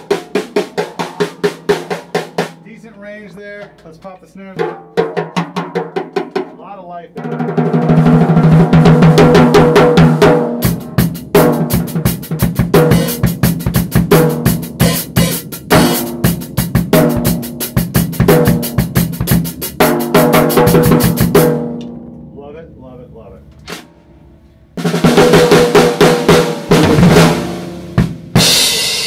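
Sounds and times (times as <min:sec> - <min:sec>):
drum kit groove: 0:00.0 - 0:29.0.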